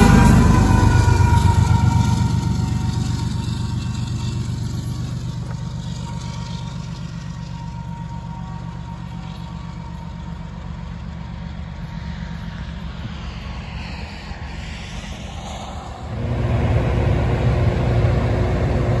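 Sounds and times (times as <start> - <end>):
freight train rumbling: 0.0 - 19.0.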